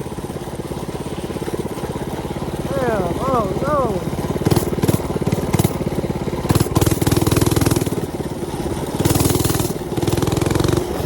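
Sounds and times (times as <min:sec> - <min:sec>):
small engine revving: 0:01.4 - 0:11.0.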